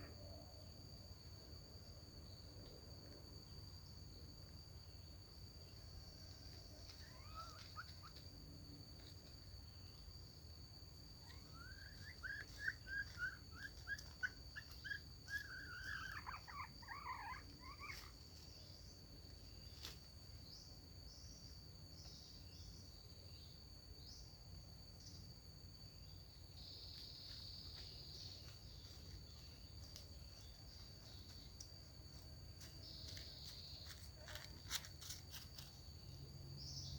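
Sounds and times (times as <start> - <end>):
crickets droning: 0.0 - 36.9.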